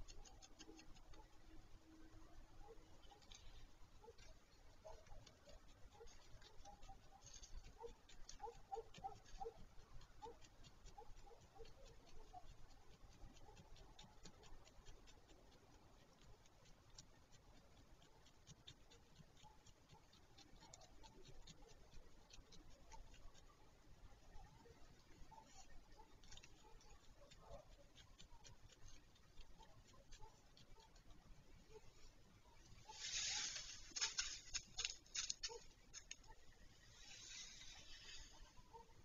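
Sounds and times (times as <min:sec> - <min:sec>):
rapid scratching and ticking: 0:00.0 - 0:39.0.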